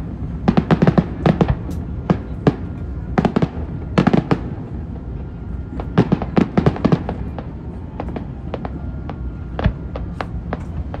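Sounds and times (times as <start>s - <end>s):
fireworks bangs: 0.3s - 5.0s, 5.7s - 11.0s.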